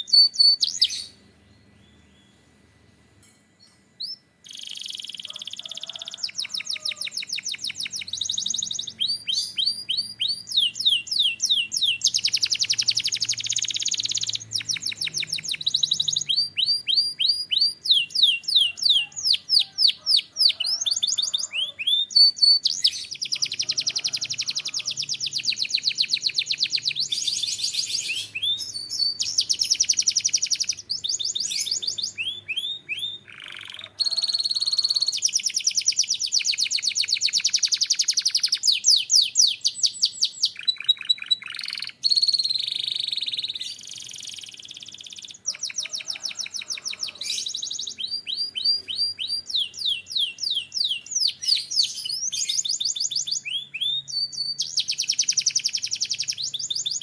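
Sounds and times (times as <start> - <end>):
canary singing trills: 0.0 - 2.5, 3.6 - 57.0.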